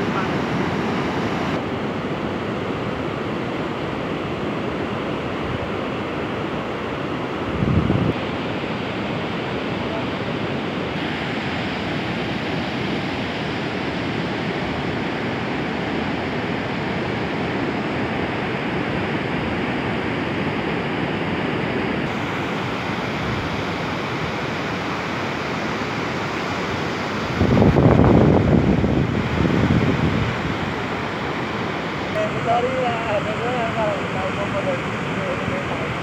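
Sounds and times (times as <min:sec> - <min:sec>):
surf breaking on a beach: 0:00.0 - 0:36.0.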